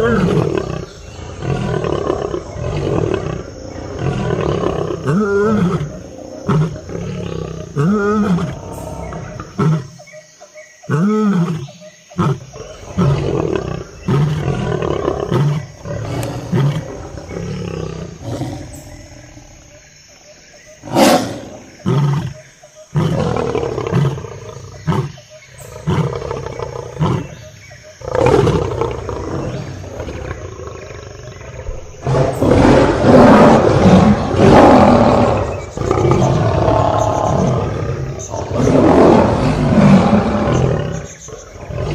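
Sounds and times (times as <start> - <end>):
lions roaring and grunting: 0.0 - 10.1, 10.9 - 19.7, 20.8 - 41.9.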